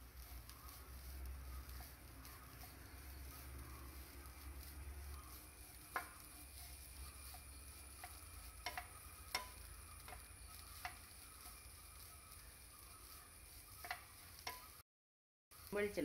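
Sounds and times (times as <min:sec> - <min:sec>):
spatula scraping a pan: 0:00.0 - 0:14.8
spatula tapping a pan: 0:00.7 - 0:14.8.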